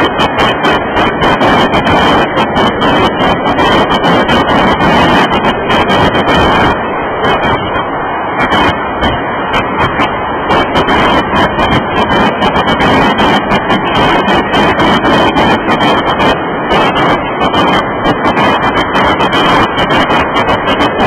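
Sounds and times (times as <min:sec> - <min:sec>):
crackle: 0:00.0 - 0:21.0
freight train wheels on rails: 0:00.0 - 0:21.0.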